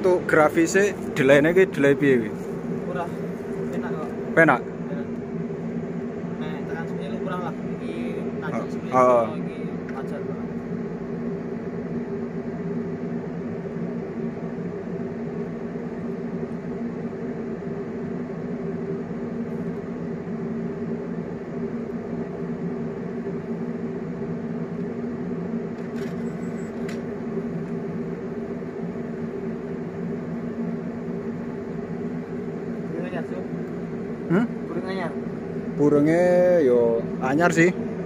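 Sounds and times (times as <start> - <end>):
mechanical hum: 0.0 - 38.0.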